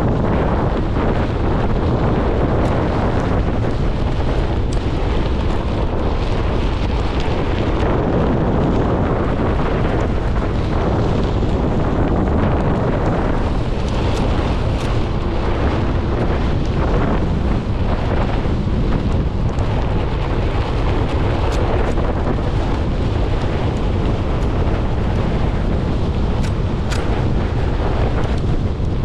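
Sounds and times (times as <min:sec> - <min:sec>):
electric board rolling on gravel: 0:00.0 - 0:29.0
wind rumble on microphone: 0:00.0 - 0:29.0.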